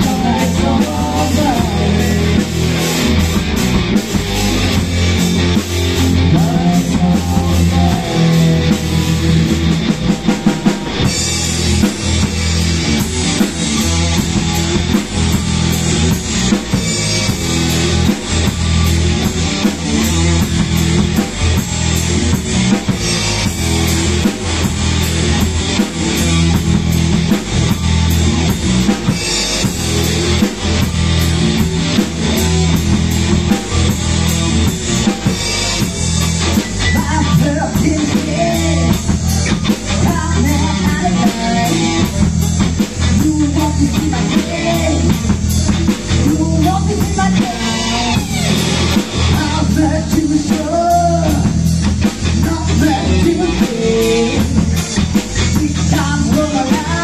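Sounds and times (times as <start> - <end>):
drum kit beating: 0.0 - 57.0
rock band playing live: 0.0 - 57.0.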